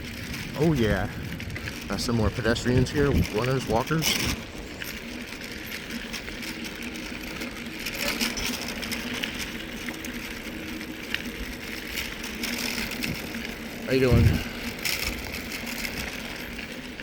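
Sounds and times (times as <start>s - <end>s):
bike tyre noise: 0.0s - 17.0s.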